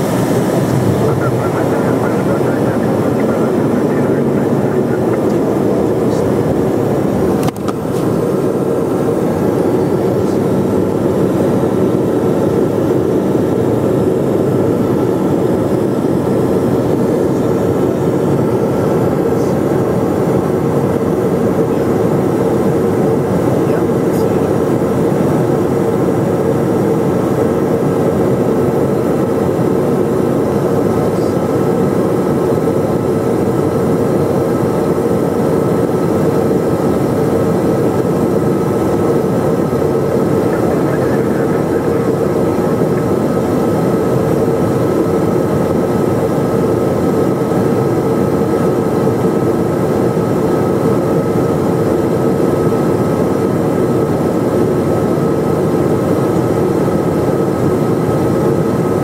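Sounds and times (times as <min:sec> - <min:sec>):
airflow over aircraft: 0:00.0 - 0:59.0
jet engine hum: 0:00.0 - 0:59.0.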